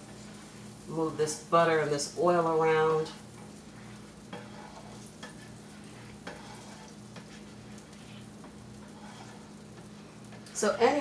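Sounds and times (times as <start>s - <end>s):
oil sizzling on a griddle: 0.0s - 11.0s
steady low hum: 0.0s - 11.0s.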